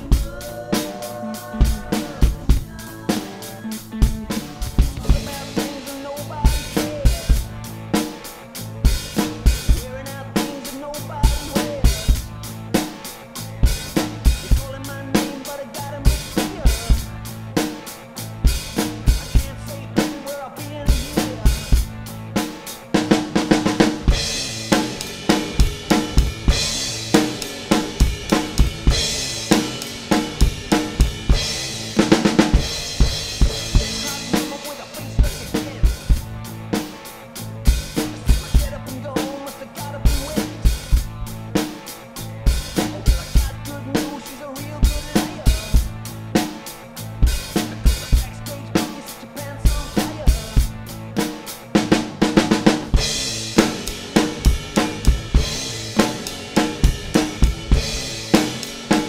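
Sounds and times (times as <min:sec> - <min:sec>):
rock backing track: 0:00.0 - 0:59.0
rock drum kit playing: 0:00.0 - 0:59.0.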